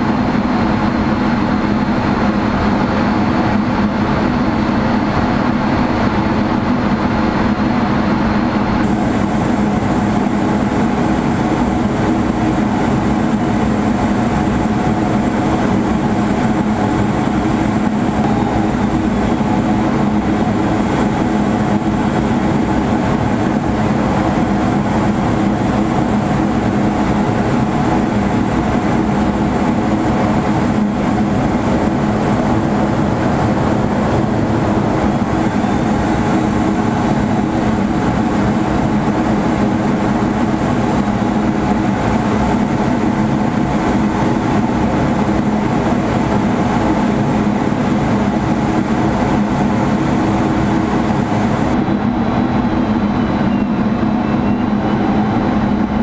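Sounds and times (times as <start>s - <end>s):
air rushing over canopy: 0.0s - 56.0s
constant low hum: 0.0s - 56.0s
jet engine drone: 0.0s - 56.0s.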